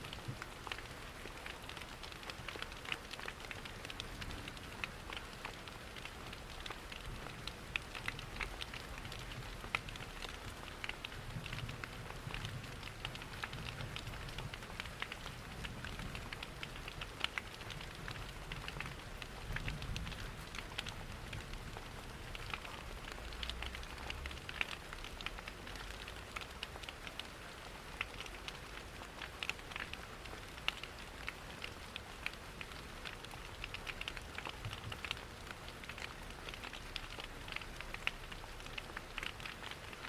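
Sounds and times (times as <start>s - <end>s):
rain pattering: 0.0s - 40.0s
wood fire crackling: 0.3s - 40.0s.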